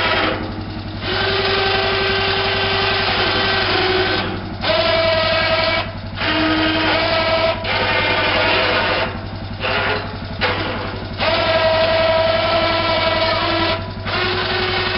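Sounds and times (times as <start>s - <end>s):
engine idling: 0.0s - 14.9s
winch motor whining: 0.0s - 14.9s.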